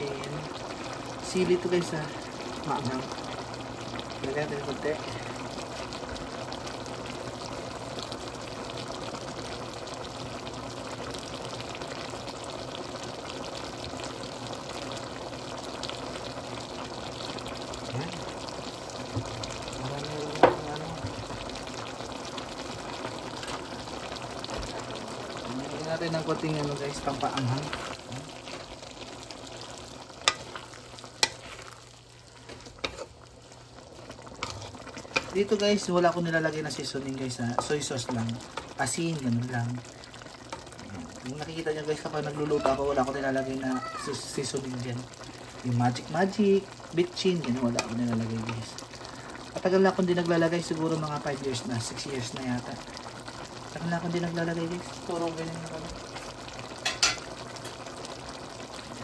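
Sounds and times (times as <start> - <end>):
meat sizzling and bubbling in pan: 0.0 - 59.0.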